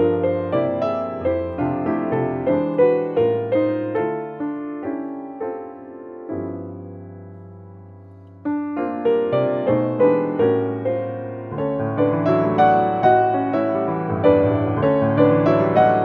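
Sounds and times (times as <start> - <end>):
grand piano playing: 0.0 - 16.0.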